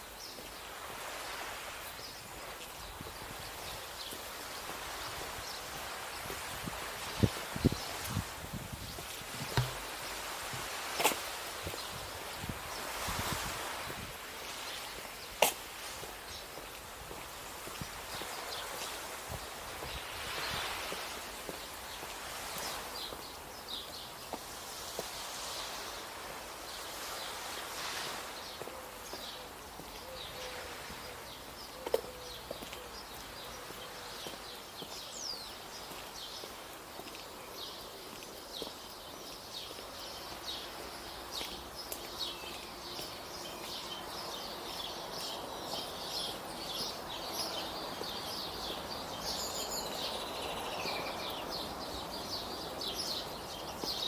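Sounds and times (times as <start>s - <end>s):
small birds chirping: 0.0s - 54.0s
steady outdoor hiss: 0.0s - 54.0s.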